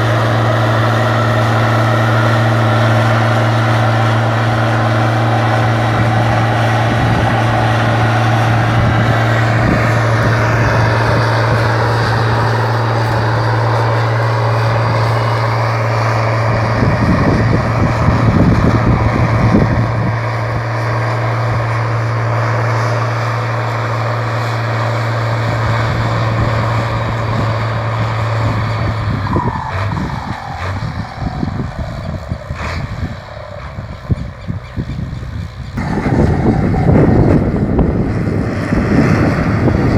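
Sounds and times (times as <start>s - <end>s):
rushing noise: 0.0s - 34.4s, 35.7s - 39.9s
tractor diesel engine running: 0.0s - 39.9s.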